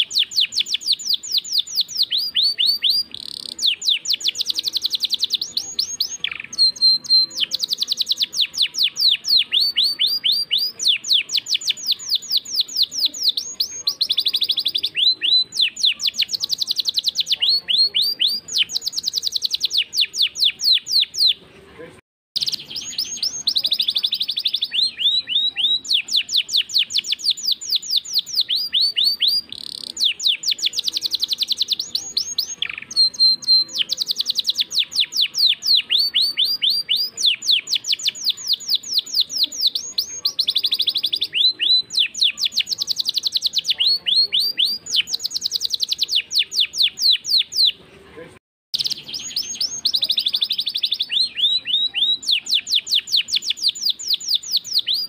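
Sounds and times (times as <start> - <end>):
canary singing trills: 0.0 - 21.5, 22.4 - 47.8, 48.8 - 55.0.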